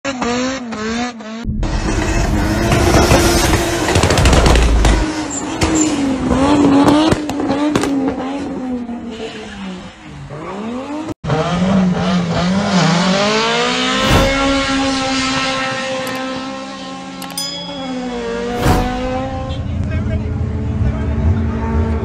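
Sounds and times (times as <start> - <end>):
car engines revving: 0.1 - 17.3, 18.0 - 22.0.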